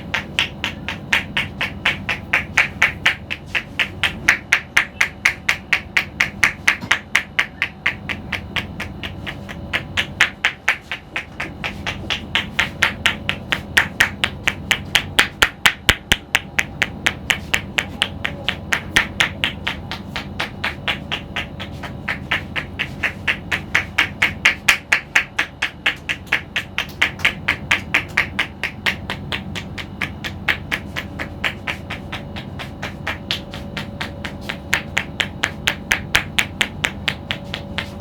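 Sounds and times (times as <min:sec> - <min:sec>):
rapid tapping on a head: 0:00.0 - 0:38.0.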